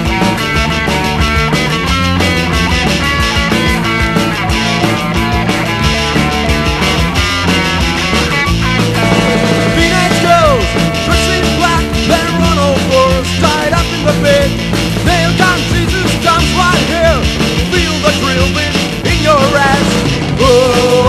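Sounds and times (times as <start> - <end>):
punk rock band playing: 0.0 - 21.0.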